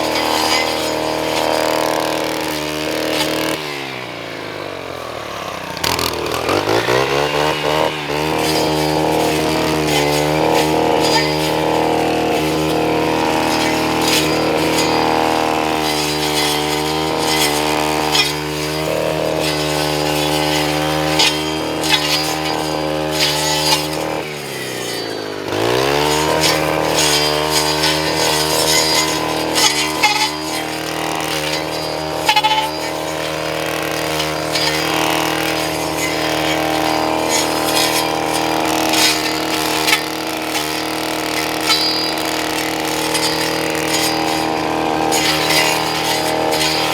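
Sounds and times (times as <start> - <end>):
string trimmer engine revving: 0.0 - 46.9
sharp ticks striking stems: 7.3 - 46.9.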